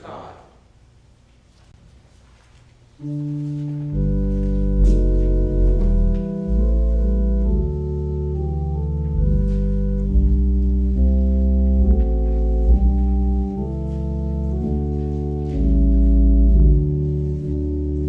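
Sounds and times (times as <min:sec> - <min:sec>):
organ playing slow chords: 0:03.0 - 0:18.0.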